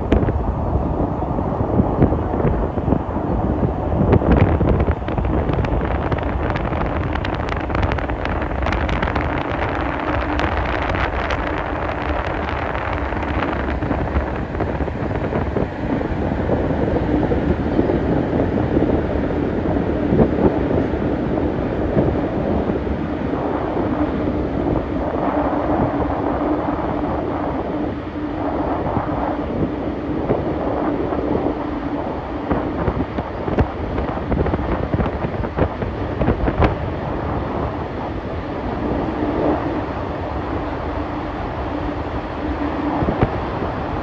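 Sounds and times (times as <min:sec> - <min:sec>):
ship engines humming: 0:00.0 - 0:44.0
wind noise on microphone: 0:00.0 - 0:44.0.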